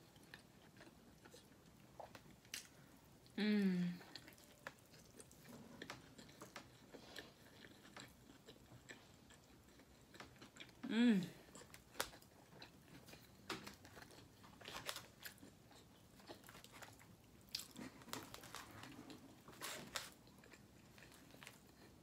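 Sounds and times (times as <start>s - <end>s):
person chewing food: 0.0s - 3.4s, 4.0s - 22.0s.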